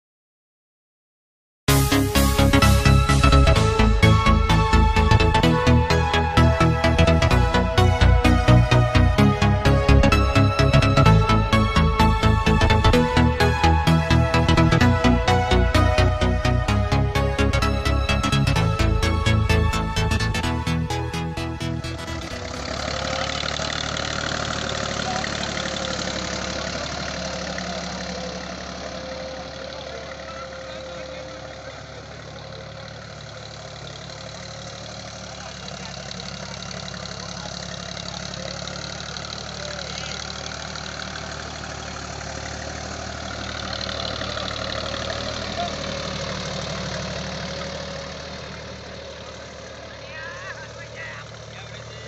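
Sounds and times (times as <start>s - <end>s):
tractor diesel engine under load: 1.7s - 52.0s.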